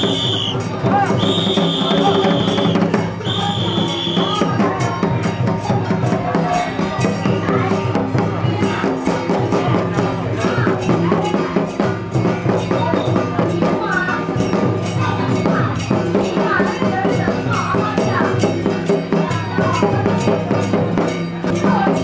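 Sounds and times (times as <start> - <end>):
clanging metal percussion: 0.0 - 22.0
drums beating fast: 0.0 - 22.0.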